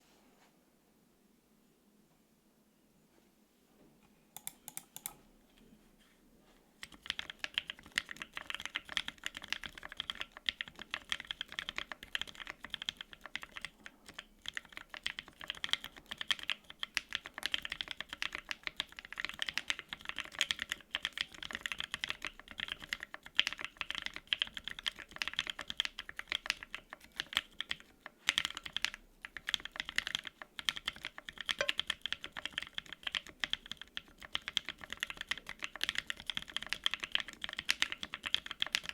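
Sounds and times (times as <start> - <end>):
typing on mechanical keyboard: 4.4 - 5.2, 6.8 - 38.9.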